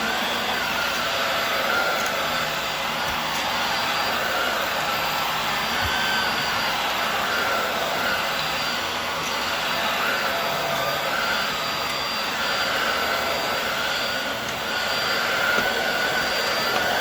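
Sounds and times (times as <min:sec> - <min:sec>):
vacuum cleaner running on a rug: 0:00.0 - 0:17.0.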